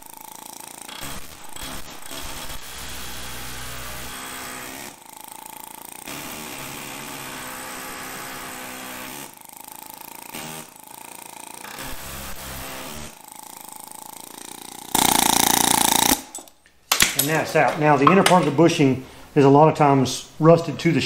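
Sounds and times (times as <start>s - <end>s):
pneumatic air hammer rattling: 0.0s - 17.4s.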